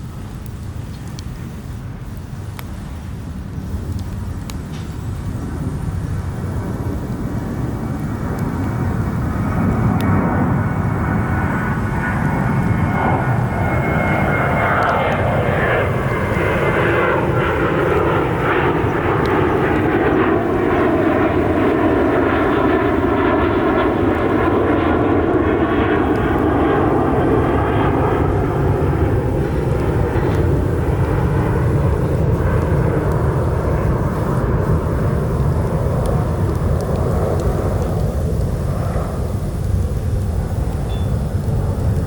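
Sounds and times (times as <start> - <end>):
faint campfire crackles: 0.0 - 42.0
jet airliner passing overhead: 0.0 - 42.0.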